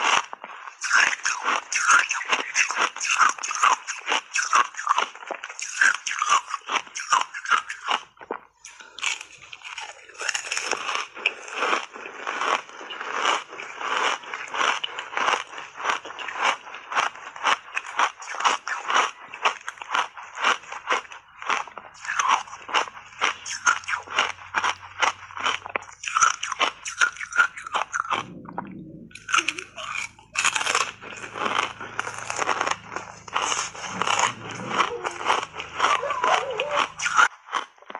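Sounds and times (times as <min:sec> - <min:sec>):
chewing ice chips: 0:00.0 - 0:37.9.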